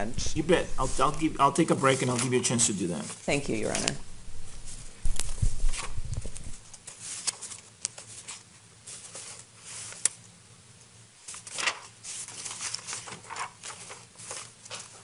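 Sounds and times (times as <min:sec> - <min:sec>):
papers rustling: 0:00.7 - 0:10.2, 0:11.2 - 0:15.0.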